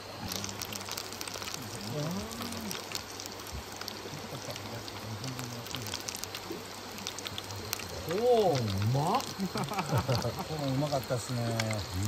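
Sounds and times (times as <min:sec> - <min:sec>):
hot oil bubbling and crackling: 0:00.0 - 0:12.0.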